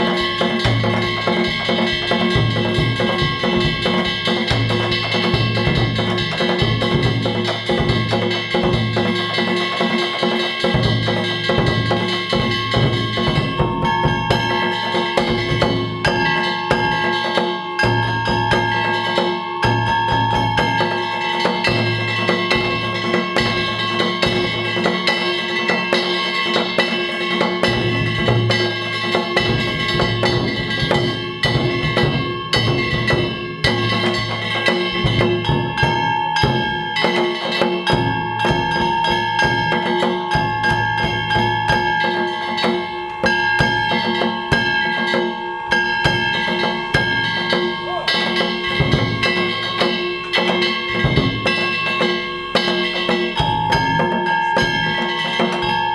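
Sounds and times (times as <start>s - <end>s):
hand gongs struck rapidly: 0.0s - 55.9s
taiko drum beats: 0.0s - 55.9s.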